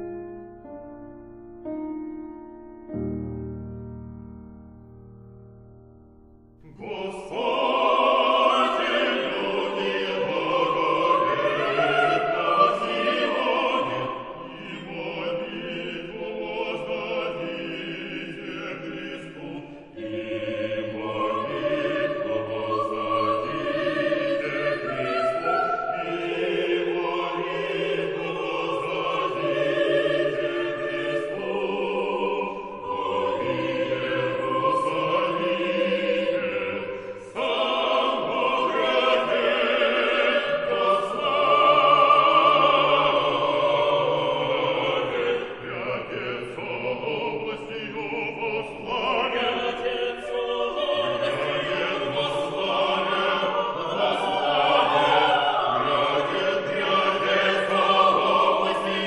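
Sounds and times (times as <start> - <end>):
male choir singing: 6.6 - 59.0.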